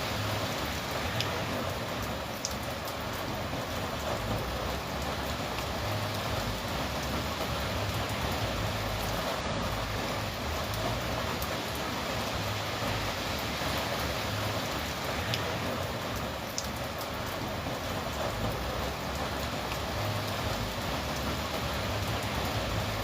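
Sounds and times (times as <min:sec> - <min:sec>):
raindrops ticking: 0:00.0 - 0:23.0
steady rain: 0:00.0 - 0:23.0.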